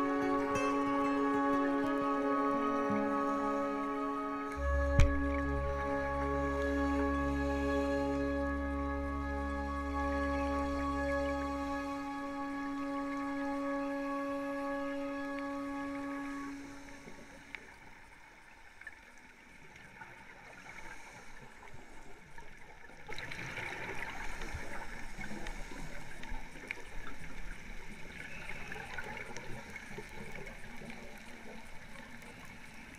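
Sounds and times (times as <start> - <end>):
underwater exhaust bubbles: 1.8 - 32.9.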